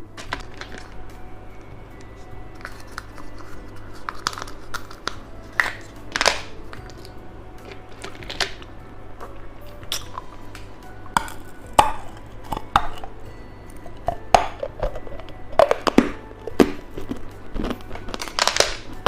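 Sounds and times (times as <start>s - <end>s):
candy crunching while eating: 0.0s - 1.3s, 2.0s - 19.0s.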